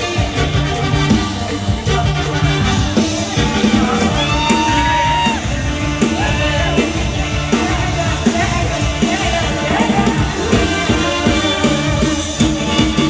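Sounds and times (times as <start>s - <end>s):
live band music: 0.0s - 13.0s
person singing: 0.0s - 13.0s.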